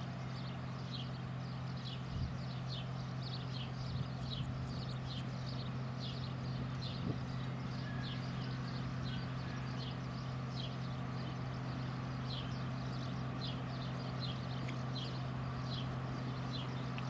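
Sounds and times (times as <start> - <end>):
low mechanical hum: 0.0 - 17.0
small bird chirping: 0.0 - 17.0.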